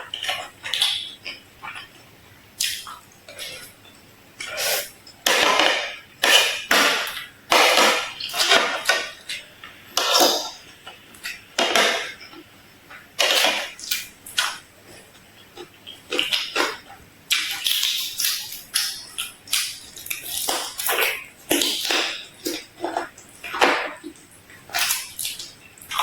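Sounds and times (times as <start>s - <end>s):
chewing and crunching food: 0.0s - 26.0s.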